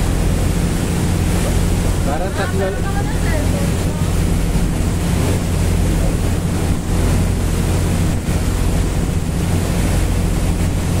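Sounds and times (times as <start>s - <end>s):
low engine drone: 0.0s - 11.0s
water rushing along hull: 0.0s - 11.0s
wind buffeting microphone: 0.0s - 11.0s.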